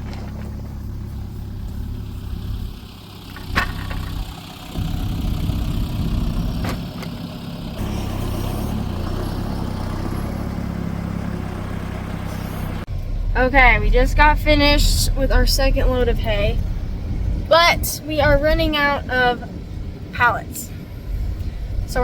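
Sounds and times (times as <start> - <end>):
vehicle engine running at low revs: 0.0 - 22.0.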